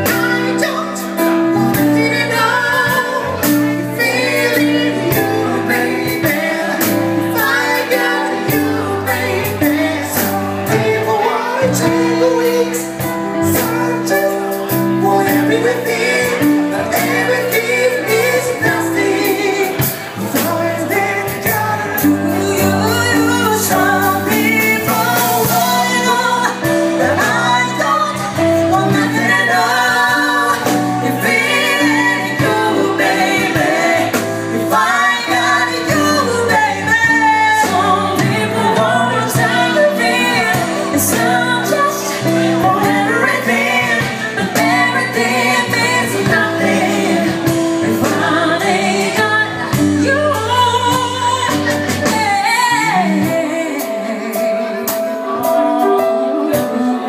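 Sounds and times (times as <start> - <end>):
live band playing: 0.0 - 57.0
men and women singing: 0.0 - 57.0.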